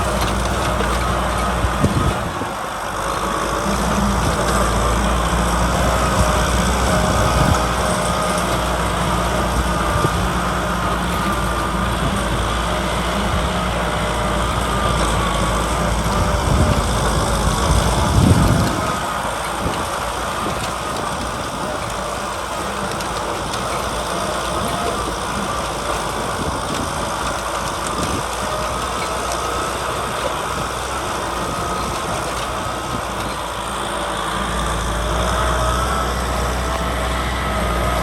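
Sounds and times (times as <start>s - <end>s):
tractor engine drone: 0.0s - 38.0s.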